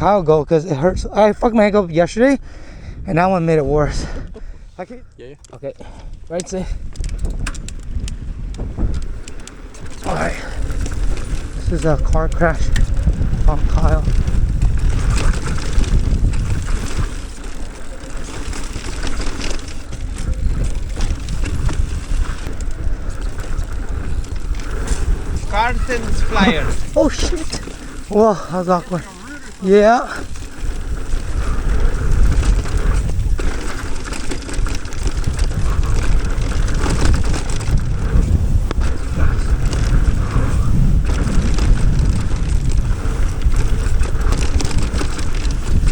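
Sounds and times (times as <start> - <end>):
wind buffeting microphone: 0.0 - 45.9
bike rattling over ground: 5.3 - 45.9.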